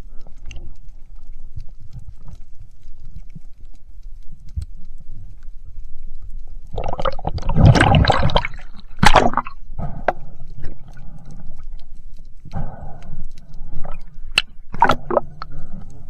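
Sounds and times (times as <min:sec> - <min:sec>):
underwater gurgling and rushing: 0:00.0 - 0:16.0.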